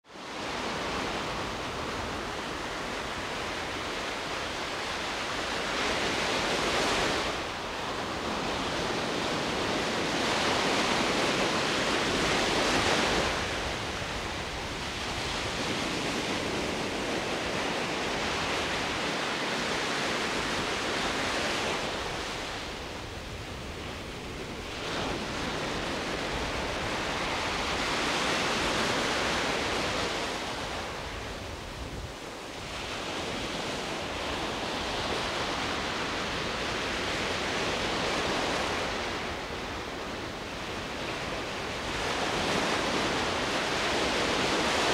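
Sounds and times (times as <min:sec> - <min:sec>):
waves breaking and washing in: 0:00.1 - 0:44.9.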